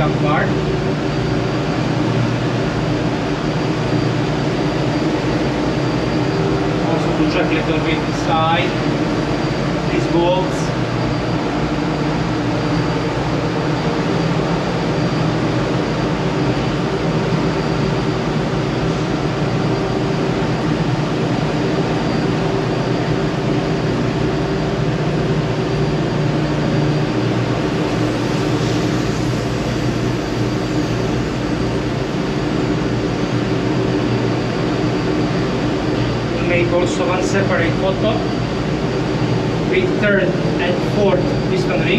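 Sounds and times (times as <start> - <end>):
engine-room machinery drone: 0.0 - 41.9.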